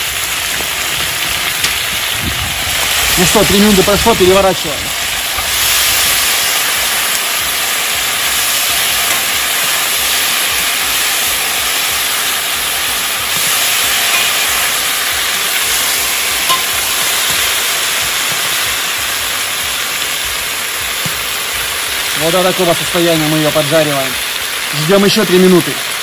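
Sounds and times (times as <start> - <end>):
potatoes sizzling in fat: 0.0 - 26.0.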